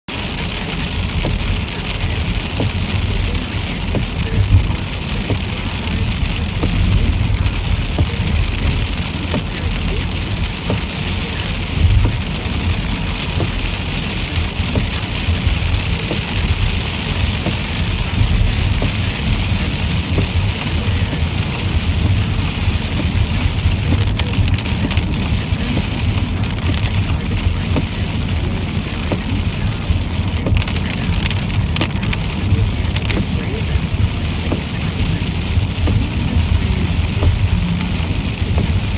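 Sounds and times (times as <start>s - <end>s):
car road rumble: 0.0s - 38.9s
rain and wet tyres hiss: 0.1s - 38.9s.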